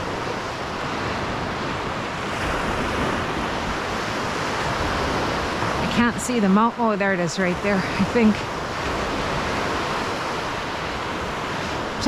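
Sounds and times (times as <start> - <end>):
waves rushing on shore: 0.0 - 12.0
wind: 0.0 - 12.0.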